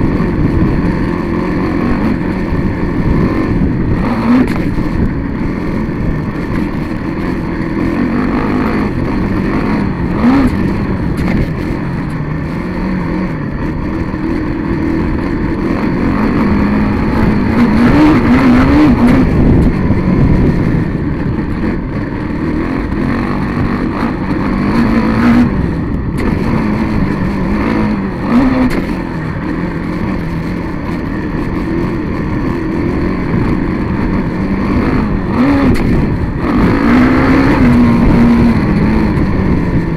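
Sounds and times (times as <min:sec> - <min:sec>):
vehicle engine revving: 0:00.0 - 0:39.9
wind and track noise: 0:00.0 - 0:39.9.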